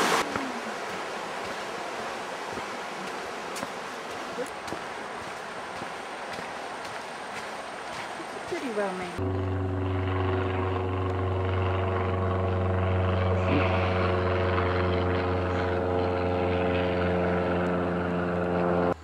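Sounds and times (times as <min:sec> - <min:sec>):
propeller airplane droning overhead: 0:00.0 - 0:19.0.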